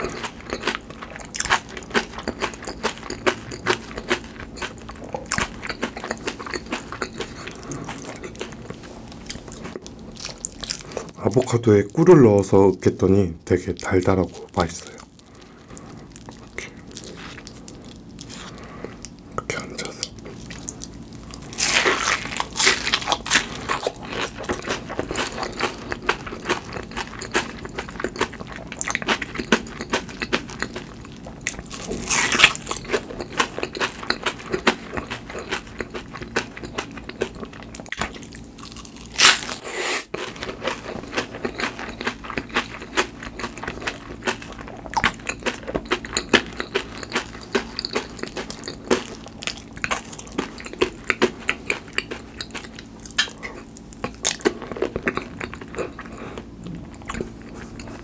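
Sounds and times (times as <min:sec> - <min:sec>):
crunchy biting and chewing: 0:00.0 - 0:11.6, 0:14.3 - 0:58.0.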